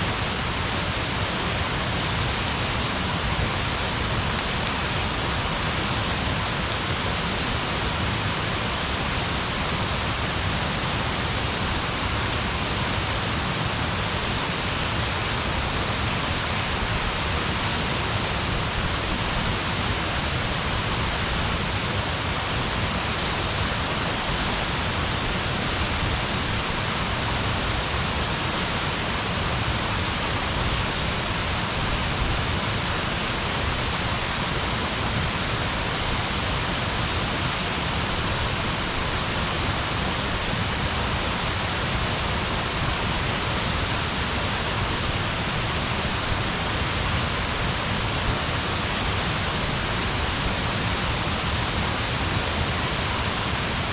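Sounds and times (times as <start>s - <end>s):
steady rushing noise: 0.0s - 53.9s.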